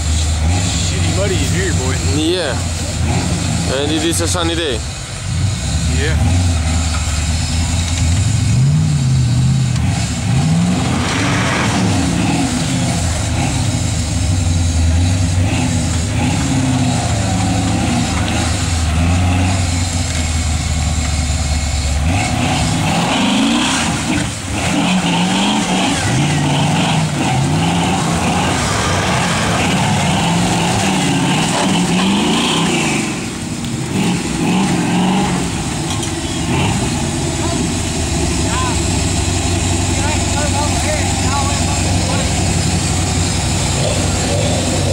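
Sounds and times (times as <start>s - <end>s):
engine revving: 0.0s - 44.9s.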